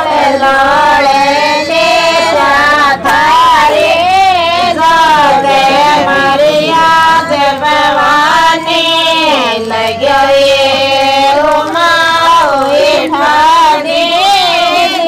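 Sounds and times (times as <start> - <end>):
woman singing devotional song: 0.0 - 15.0.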